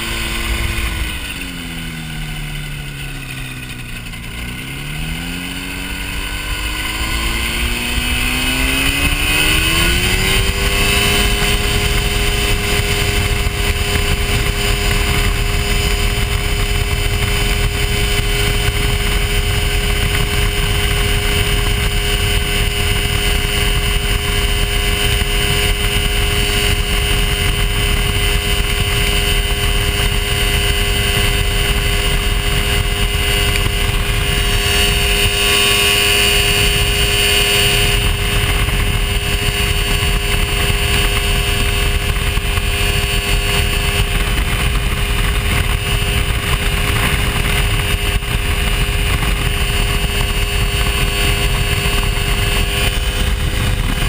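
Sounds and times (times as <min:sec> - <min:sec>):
light airplane engine and propeller: 0:00.0 - 0:54.0
wind noise: 0:00.0 - 0:54.0.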